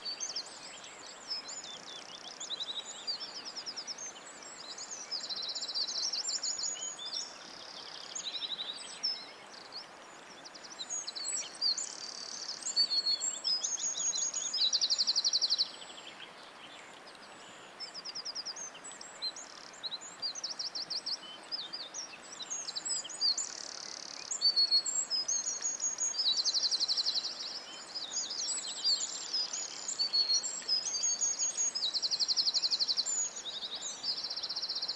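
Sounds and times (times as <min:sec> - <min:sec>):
faint steady hiss: 0:00.0 - 0:34.9
songbirds chirping and trilling: 0:00.0 - 0:34.9.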